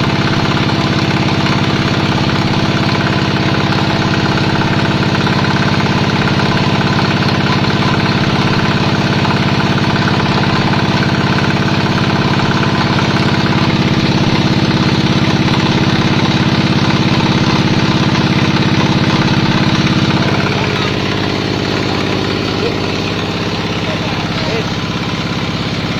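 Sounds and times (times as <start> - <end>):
pellet mill mechanical drone: 0.0 - 25.9.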